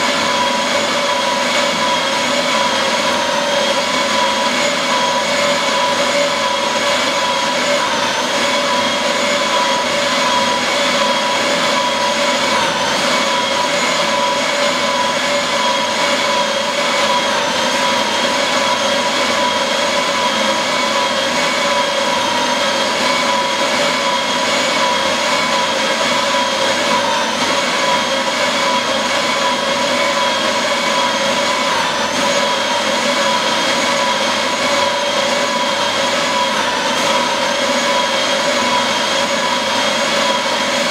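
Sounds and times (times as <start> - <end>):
paper shredder whining: 0.0 - 40.9.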